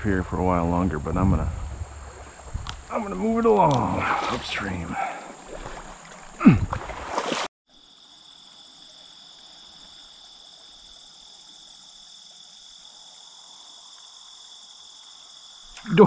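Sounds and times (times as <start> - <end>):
faint stream hiss: 0.0 - 16.0
insect chorus trilling: 0.0 - 16.0.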